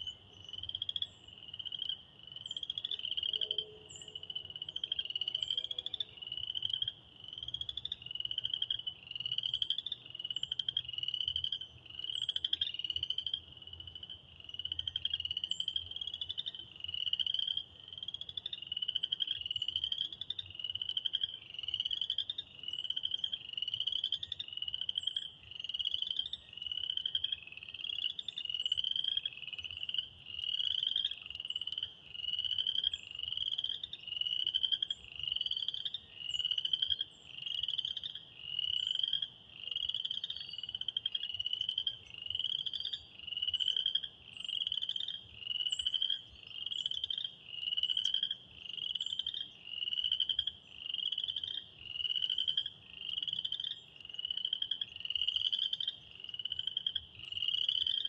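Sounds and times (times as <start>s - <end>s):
frogs calling: 0.0s - 58.0s.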